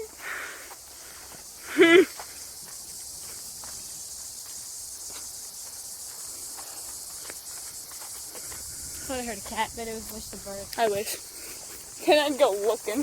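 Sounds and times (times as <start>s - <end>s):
faint footsteps on trail: 0.0s - 13.0s
high-pitched insect chorus: 0.0s - 13.0s.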